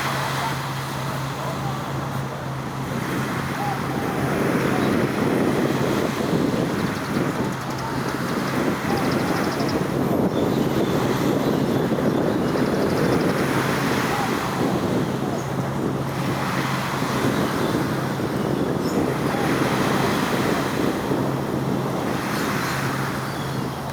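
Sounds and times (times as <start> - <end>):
road traffic rumble: 0.0 - 23.9
wind on microphone: 0.0 - 23.9.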